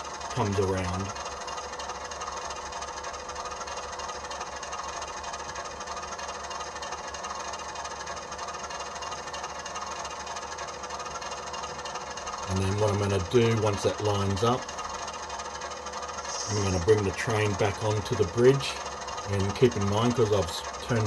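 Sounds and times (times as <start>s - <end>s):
diesel engine idling from small speaker: 0.0s - 21.0s.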